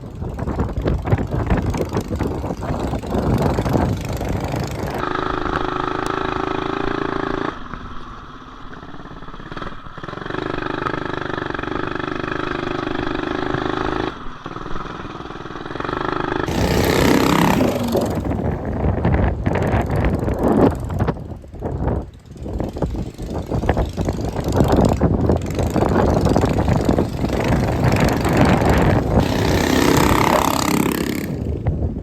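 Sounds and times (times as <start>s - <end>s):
wind buffeting microphone: 0.0s - 8.2s, 9.4s - 32.0s
small engine running at high revs: 0.4s - 31.8s.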